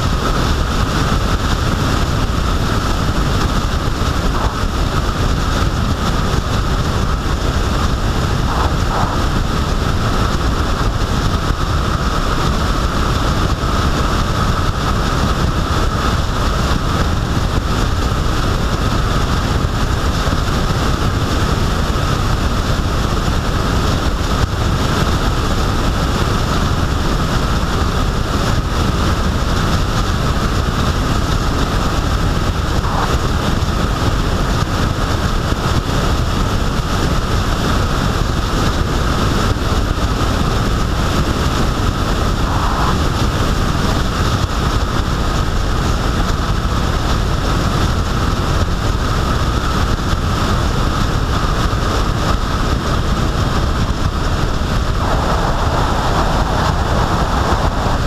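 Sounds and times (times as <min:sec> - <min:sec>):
vehicle road and engine noise: 0:00.0 - 0:58.0
wind rush over microphone: 0:00.0 - 0:58.0.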